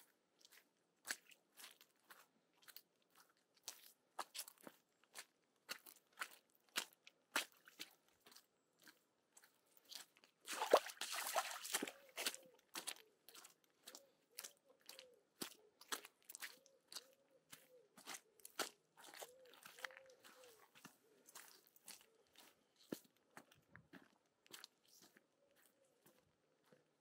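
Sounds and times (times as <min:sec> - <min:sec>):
footsteps crunching on path: 0:00.0 - 0:27.0.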